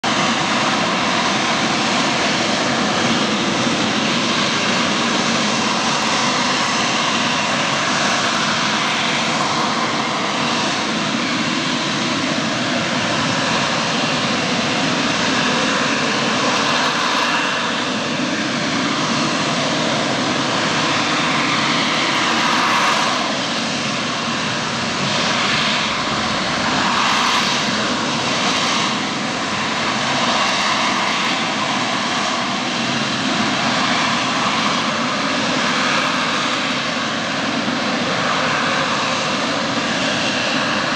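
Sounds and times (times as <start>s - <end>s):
jet engine roar: 0.0s - 40.9s.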